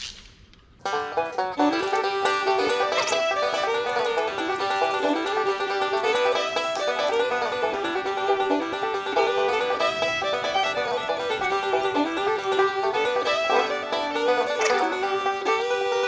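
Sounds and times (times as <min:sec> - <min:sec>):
bluegrass music with plucked banjo: 0:00.8 - 0:16.0.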